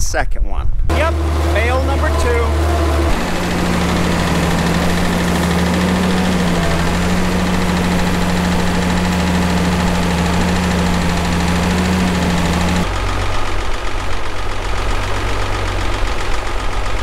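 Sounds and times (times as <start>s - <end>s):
tractor engine running: 0.9s - 17.0s.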